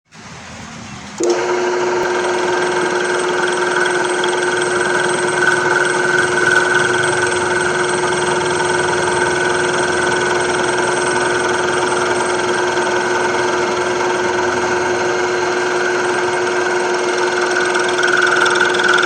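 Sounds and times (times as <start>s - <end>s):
milling machine running: 1.0s - 19.0s.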